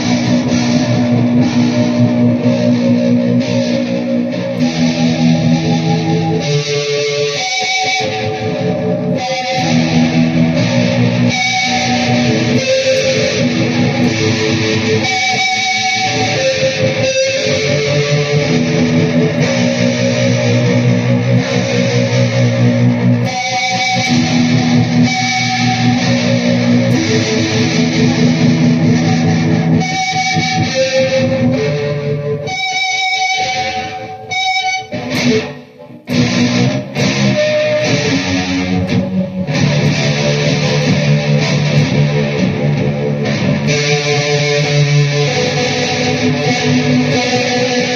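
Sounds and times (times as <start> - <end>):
electric guitar chords: 0.0 - 47.9.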